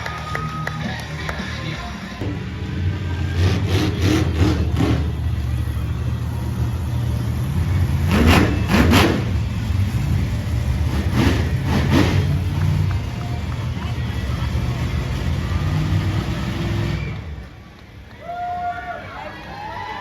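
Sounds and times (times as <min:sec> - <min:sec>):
monster truck engine revving: 0:00.1 - 0:17.6.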